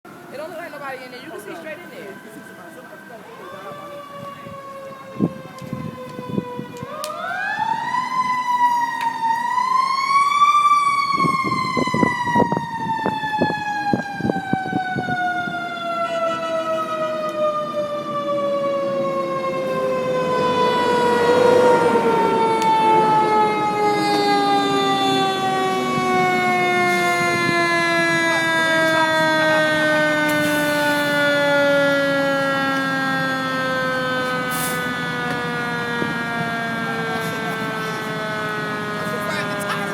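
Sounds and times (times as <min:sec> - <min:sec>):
fire truck siren wailing: 0:00.0 - 0:39.9.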